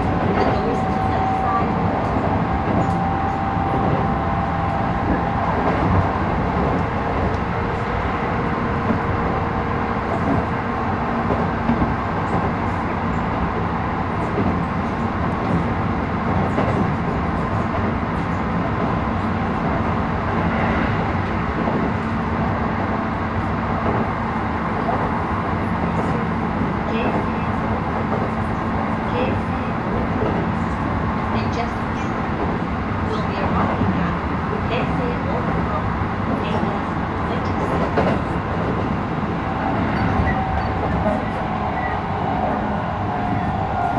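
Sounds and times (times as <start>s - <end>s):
train wheels rolling on rail: 0.0s - 43.9s.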